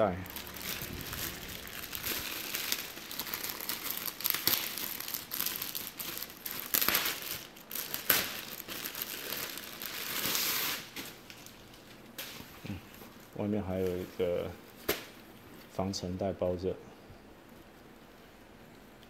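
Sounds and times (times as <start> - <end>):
plastic wrapping crinkling: 0.0 - 15.3.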